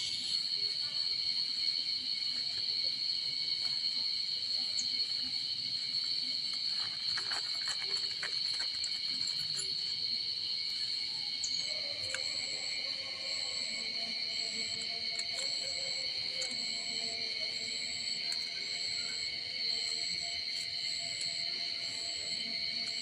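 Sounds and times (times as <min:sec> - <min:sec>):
insect chorus droning: 0:00.0 - 0:23.0.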